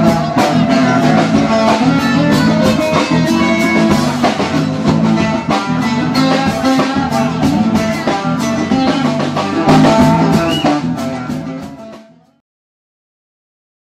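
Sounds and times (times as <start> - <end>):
band with guitar and drums: 0.0 - 12.4.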